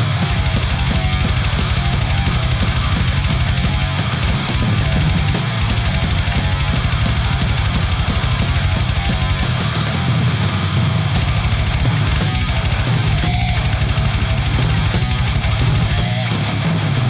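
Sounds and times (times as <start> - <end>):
electric guitar: 0.0 - 17.0
fast driving drum beat: 0.0 - 17.0
heavy rock music: 0.0 - 17.0.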